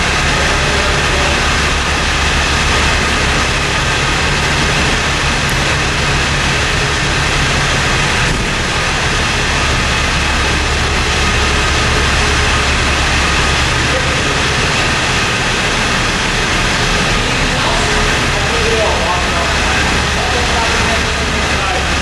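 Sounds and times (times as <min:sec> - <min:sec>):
fire engine idling: 0:00.0 - 0:22.0.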